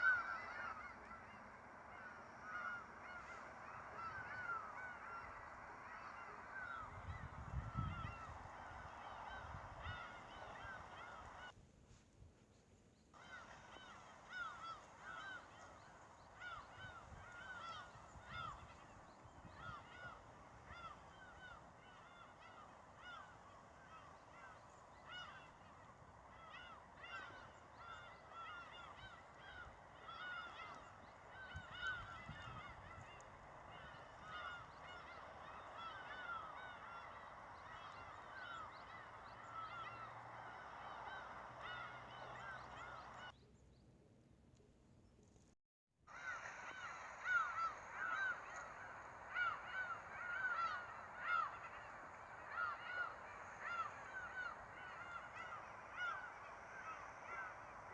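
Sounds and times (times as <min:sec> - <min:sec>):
geese honking: 0:00.0 - 0:11.6, 0:13.2 - 0:43.3, 0:46.1 - 0:57.9.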